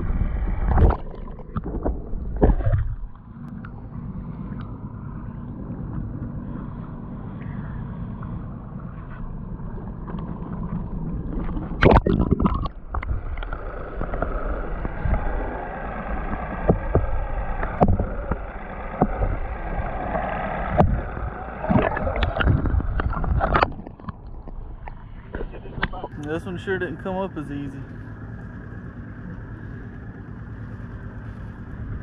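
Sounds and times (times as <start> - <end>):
water sloshing and splashing: 0.0 - 26.9
low engine hum: 0.0 - 32.0.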